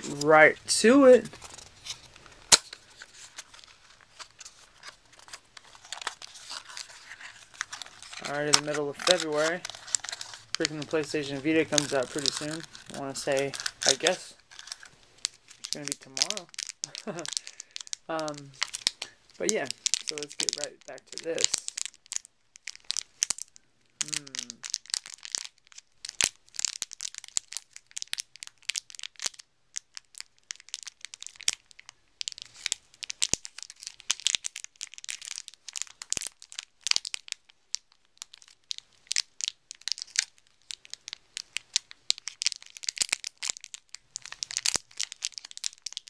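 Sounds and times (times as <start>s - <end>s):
plastic wrapper crinkling: 0.0s - 46.0s.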